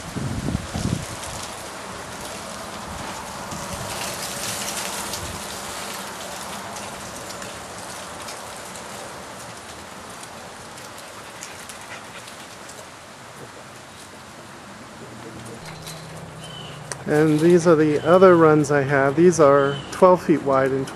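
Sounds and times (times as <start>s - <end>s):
dry leaves rustling: 0.0s - 20.8s.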